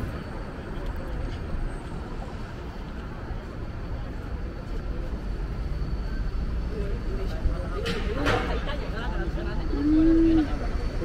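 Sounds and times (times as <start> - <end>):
indistinct voices: 0.0 - 11.0
low traffic rumble: 0.0 - 11.0.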